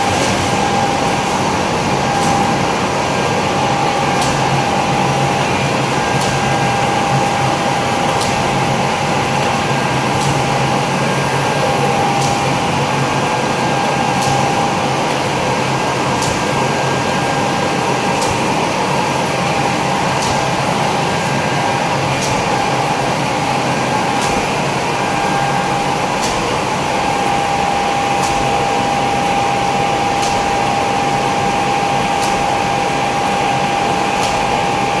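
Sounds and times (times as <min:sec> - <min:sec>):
machine humming and whining: 0:00.0 - 0:35.0.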